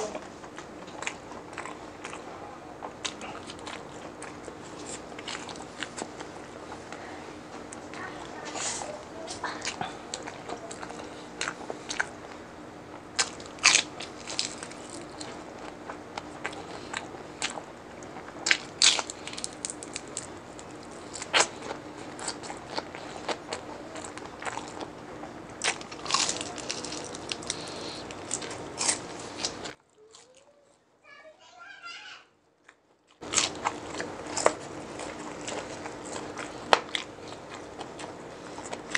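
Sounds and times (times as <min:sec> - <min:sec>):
crunching and chewing of fried food: 0:00.0 - 0:30.7, 0:32.6 - 0:38.9.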